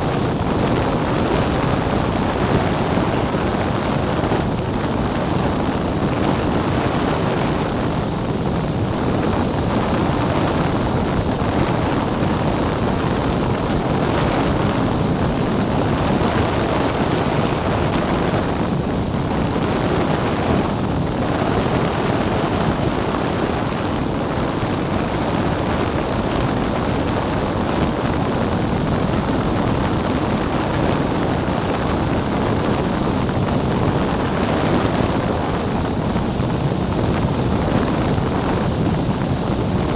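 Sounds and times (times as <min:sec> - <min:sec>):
propeller plane engine drone: 0:00.0 - 0:39.9
rushing air: 0:00.0 - 0:39.9.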